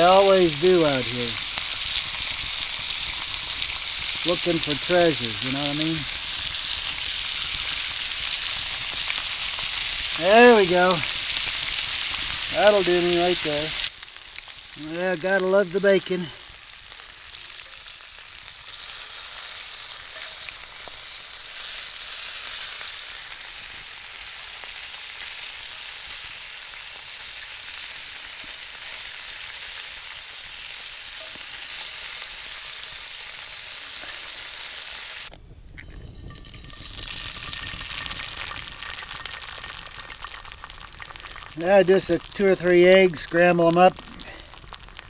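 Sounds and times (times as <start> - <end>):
bacon sizzling in a pan: 0.0 - 45.0.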